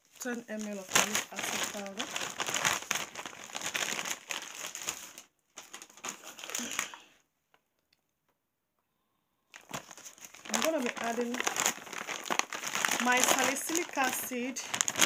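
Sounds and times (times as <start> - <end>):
plastic crinkling and rustling: 0.0 - 7.1, 9.5 - 15.0.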